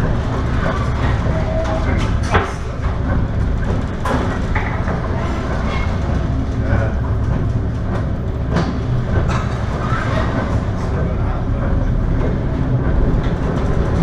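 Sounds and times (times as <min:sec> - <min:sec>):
knocks and rattles: 0:00.0 - 0:14.0
ship rumbling in heavy seas: 0:00.0 - 0:14.0.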